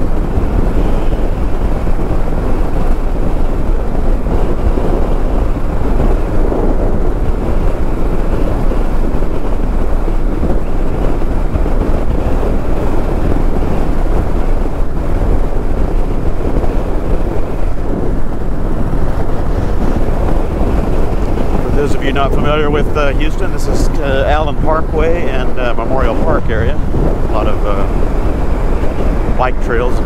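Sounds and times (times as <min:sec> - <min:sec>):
motorcycle engine cruising: 0:00.0 - 0:30.0
wind rushing over microphone: 0:00.0 - 0:30.0.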